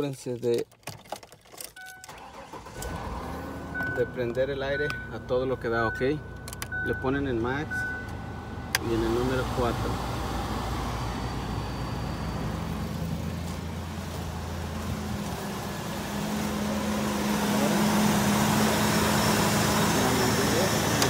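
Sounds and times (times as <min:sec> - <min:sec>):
car engine idling: 0:02.1 - 0:21.0.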